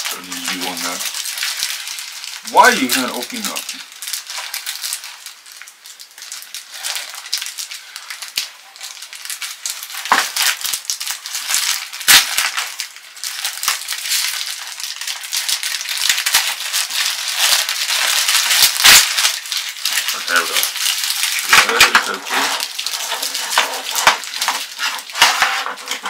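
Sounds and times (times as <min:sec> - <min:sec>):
plastic packaging crinkling and rattling: 0:00.0 - 0:26.0.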